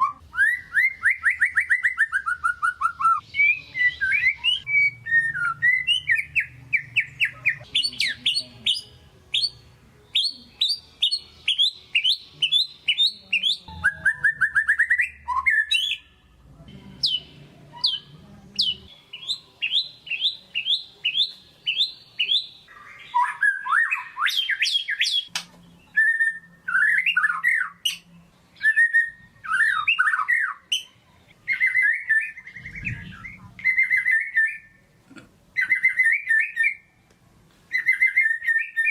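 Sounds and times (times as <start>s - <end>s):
bird singing: 0.0s - 16.2s, 17.0s - 34.8s, 35.6s - 36.9s, 37.7s - 38.9s.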